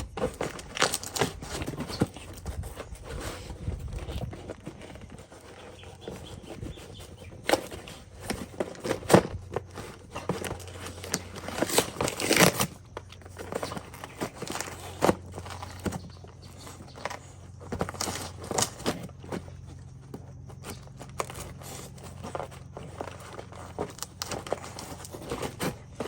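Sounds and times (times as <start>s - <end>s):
dog handling toys and packaging: 0.0s - 26.0s
rustling packaging: 0.0s - 26.0s.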